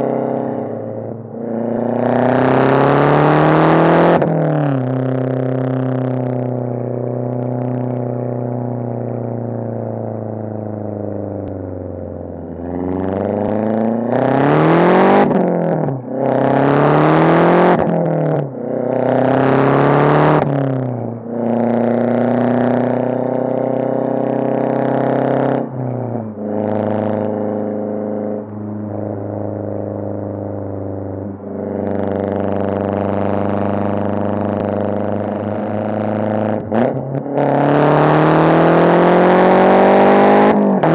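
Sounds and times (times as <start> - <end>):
car engine accelerating and cruising: 0.0 - 40.9.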